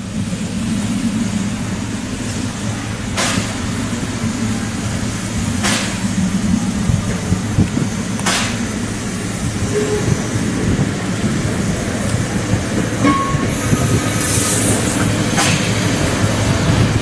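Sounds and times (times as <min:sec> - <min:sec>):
locomotive low rumble: 0:00.0 - 0:17.0.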